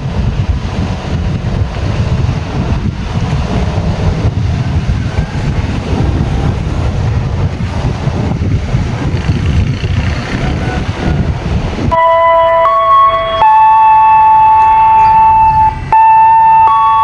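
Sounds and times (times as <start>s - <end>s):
rail car low rumble: 0.0s - 17.0s
wind buffeting microphone: 0.0s - 17.0s.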